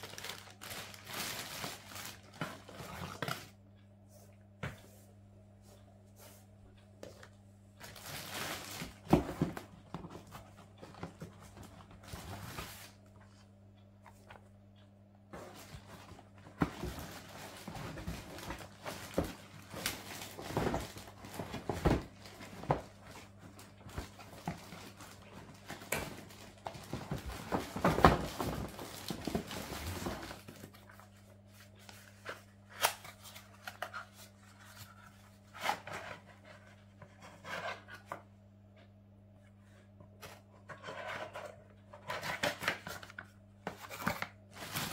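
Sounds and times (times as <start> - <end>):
plastic bags and cardboard rustling: 0.0 - 3.6, 7.1 - 13.5, 15.3 - 38.2, 39.6 - 44.9
faint steady hum: 0.0 - 44.9.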